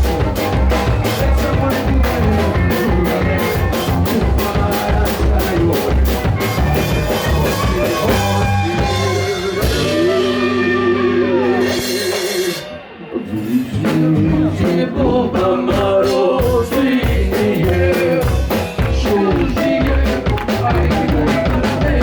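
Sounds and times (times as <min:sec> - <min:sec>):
drum kit beat: 0:00.0 - 0:22.0
live band playing punk music: 0:00.0 - 0:22.0.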